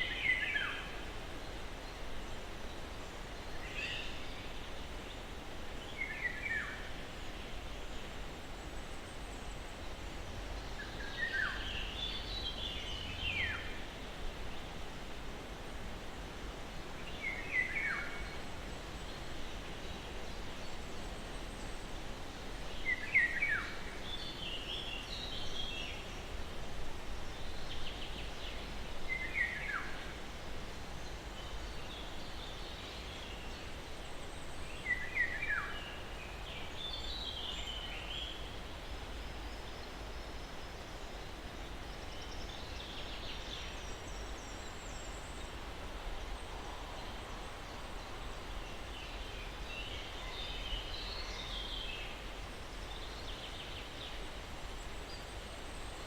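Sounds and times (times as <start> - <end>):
low background noise: 0.0 - 56.0.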